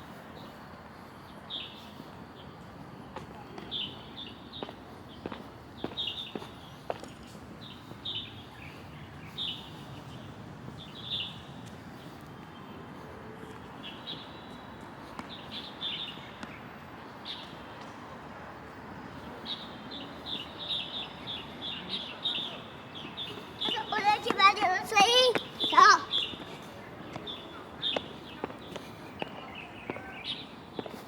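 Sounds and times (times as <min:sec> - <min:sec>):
small birds chirping: 0:00.2 - 0:17.9, 0:18.7 - 0:31.0.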